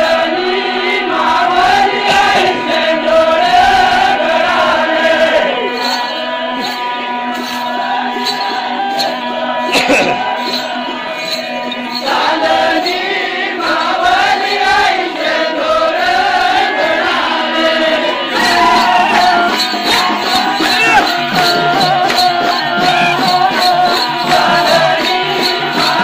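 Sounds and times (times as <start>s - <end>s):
rattling percussion: 1.1s - 26.0s.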